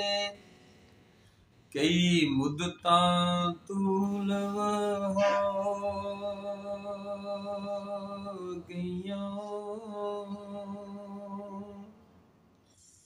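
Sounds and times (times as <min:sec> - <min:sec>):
man singing unaccompanied: 0:00.0 - 0:00.4, 0:01.7 - 0:11.9.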